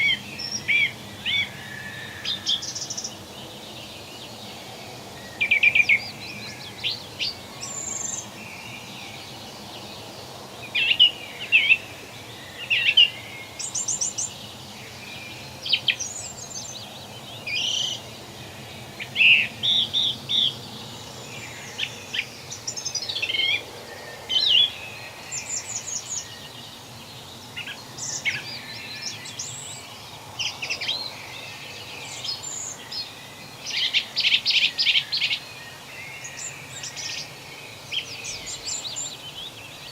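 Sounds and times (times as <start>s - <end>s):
songbirds singing and chirping: 0.0s - 39.9s
steady background hiss: 0.0s - 39.9s.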